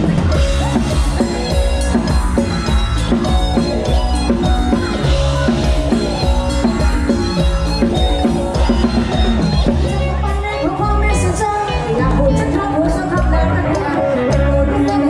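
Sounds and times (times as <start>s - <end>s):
band melody lines: 0.0s - 15.0s
drum kit beat: 0.0s - 15.0s
heavy bass: 0.0s - 15.0s.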